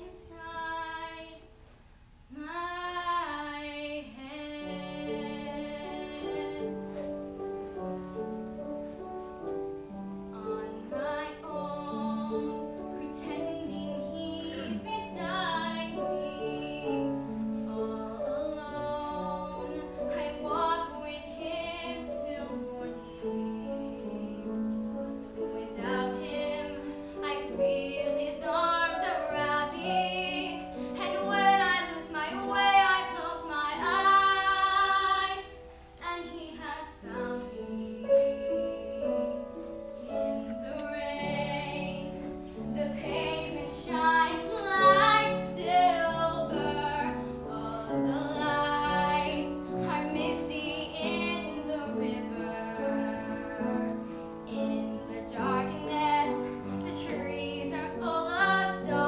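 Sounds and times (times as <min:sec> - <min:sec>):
woman singing with vibrato: 0:02.3 - 0:06.8, 0:10.3 - 0:24.6, 0:25.6 - 0:59.0.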